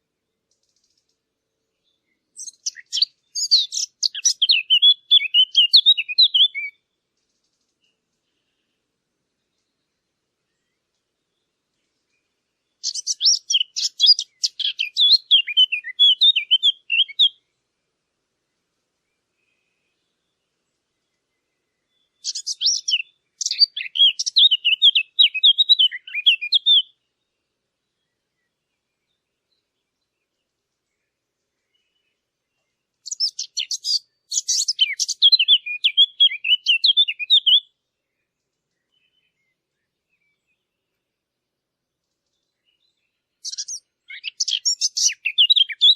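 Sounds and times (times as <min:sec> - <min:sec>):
songbird singing: 0:00.0 - 0:45.9
bird chirping and twittering: 0:00.5 - 0:08.6, 0:09.4 - 0:17.5, 0:19.1 - 0:45.9.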